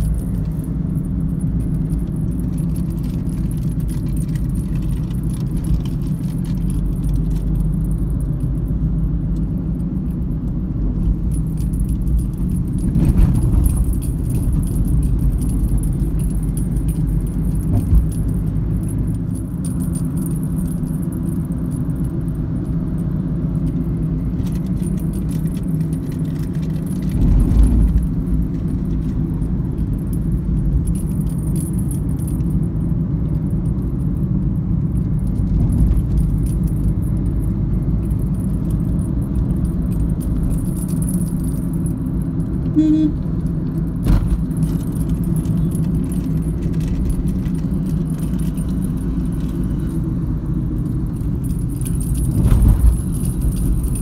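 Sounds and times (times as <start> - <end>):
small clicks and rattles: 0.0 - 9.5, 10.1 - 32.8, 34.8 - 42.7, 43.4 - 54.0
car road and engine rumble: 0.0 - 54.0.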